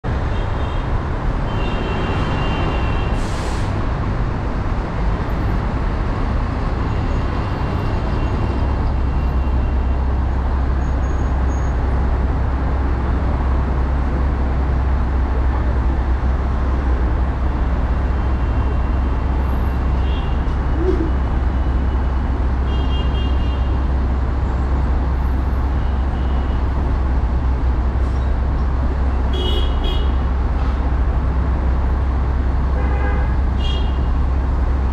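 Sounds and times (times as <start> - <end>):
traffic engines rumbling: 0.0 - 34.9.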